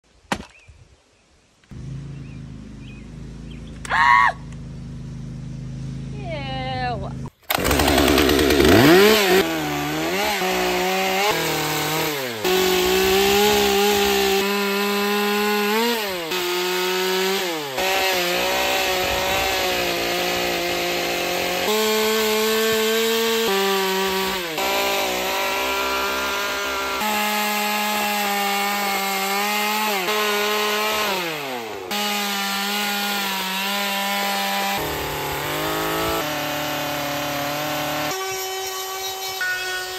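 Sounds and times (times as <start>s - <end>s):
chainsaw cutting wood: 7.4s - 39.9s.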